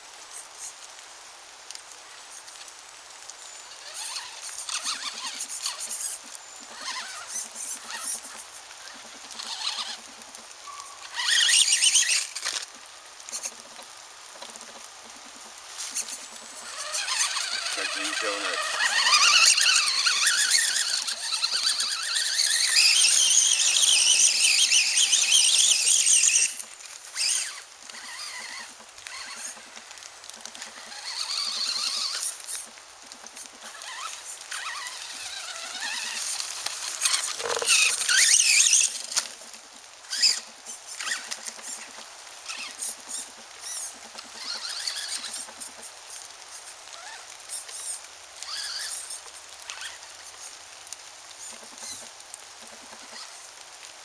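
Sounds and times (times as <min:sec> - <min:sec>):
small ticks: 0:00.1 - 0:54.0
rc buggy motor whining: 0:01.7 - 0:54.0.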